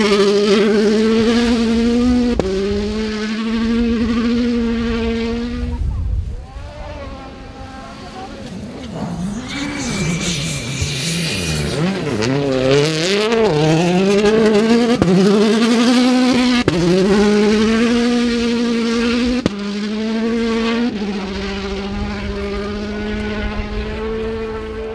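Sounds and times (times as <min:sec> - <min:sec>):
rally car engine accelerating: 0:00.0 - 0:24.9.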